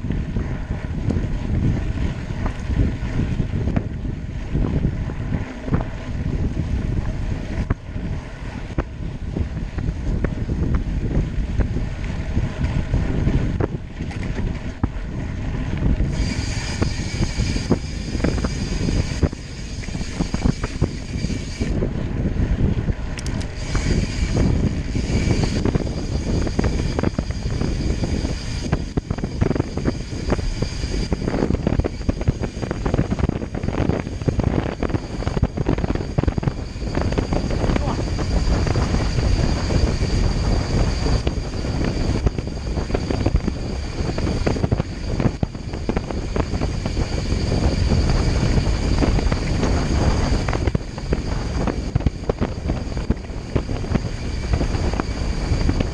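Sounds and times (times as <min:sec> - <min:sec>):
high multi-tone whine: 0:00.0 - 0:55.9
wind buffeting microphone: 0:00.0 - 0:55.9.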